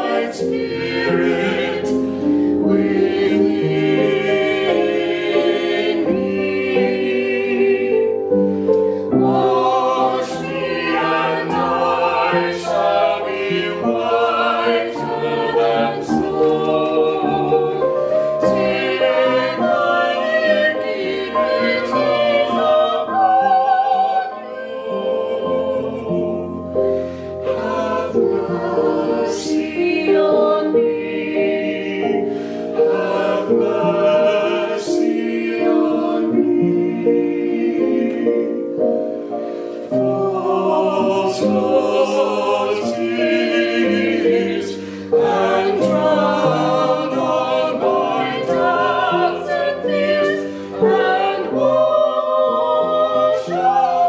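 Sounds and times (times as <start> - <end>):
upright piano: 0.0 - 54.0
vocal ensemble singing in parts: 0.0 - 54.0.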